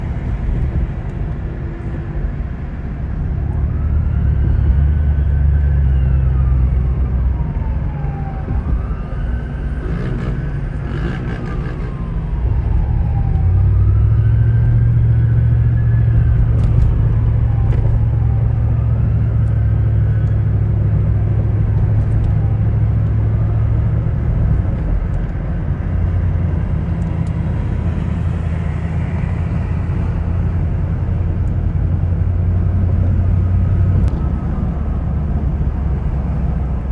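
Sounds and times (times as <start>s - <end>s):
low rumble of engines: 0.0s - 36.9s
police siren wailing: 3.2s - 36.9s.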